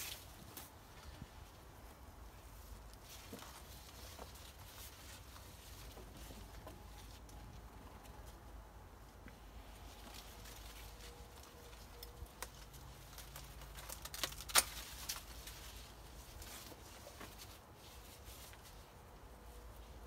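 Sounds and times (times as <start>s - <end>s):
corn leaves and husks rustling: 0.0s - 20.0s.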